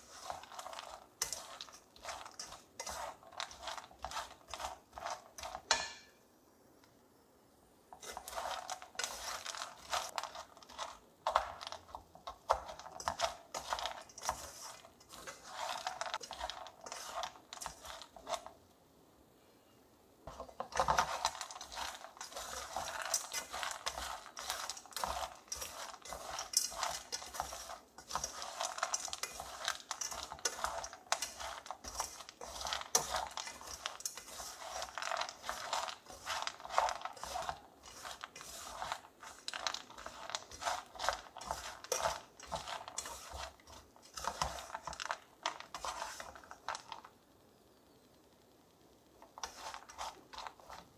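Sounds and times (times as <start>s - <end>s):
nuts rattling in a metal pot: 0.0s - 5.9s, 7.9s - 18.6s, 20.3s - 47.2s, 49.2s - 50.9s.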